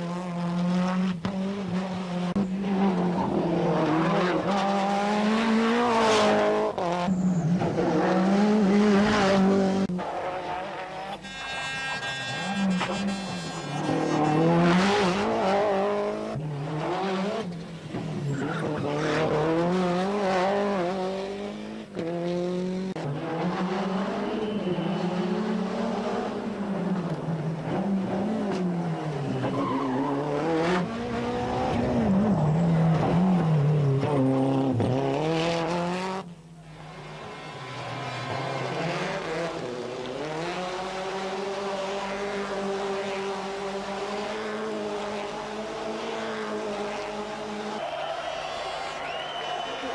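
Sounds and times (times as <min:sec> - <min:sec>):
rally car engine revving: 0:00.0 - 0:37.2, 0:37.8 - 0:47.8.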